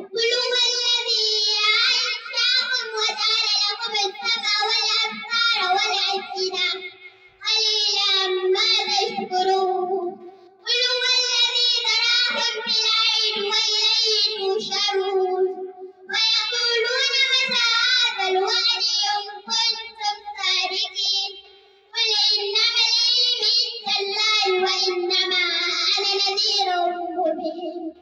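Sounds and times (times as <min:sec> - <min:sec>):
girl chanting melodically: 0:00.0 - 0:28.0.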